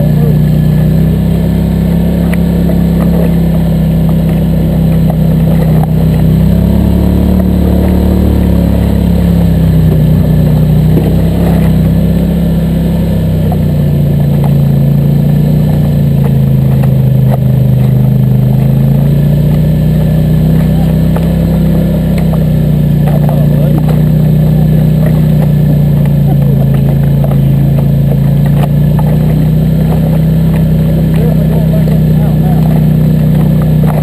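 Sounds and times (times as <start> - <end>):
quad engine running: 0.0 - 34.0.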